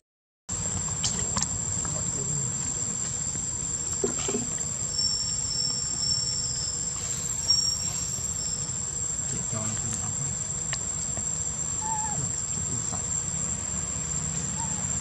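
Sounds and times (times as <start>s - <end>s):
insects droning: 0.5s - 15.0s.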